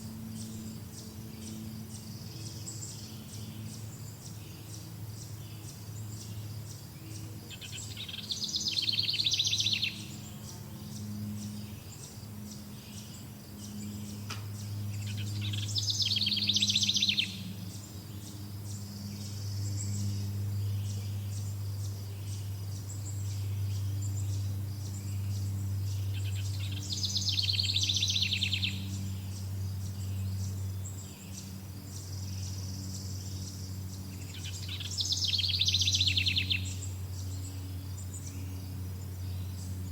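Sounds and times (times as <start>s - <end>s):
insects ticking: 0.0s - 39.9s
low steady hum: 0.0s - 39.9s.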